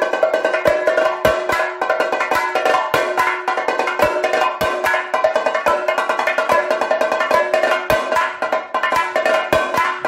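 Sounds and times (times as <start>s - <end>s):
stick drums played fast: 0.0s - 10.0s.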